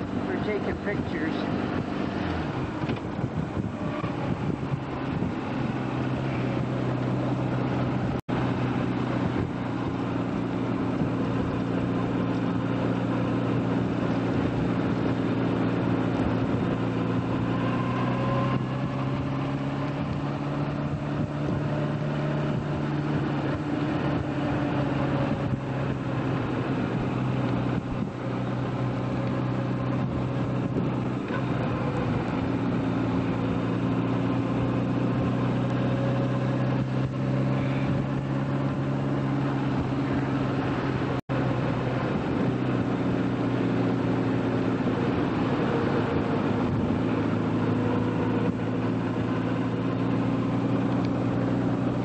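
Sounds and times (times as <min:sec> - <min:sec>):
motorcycle engine cruising: 0:00.0 - 0:52.0
rush of wind noise: 0:00.0 - 0:52.0.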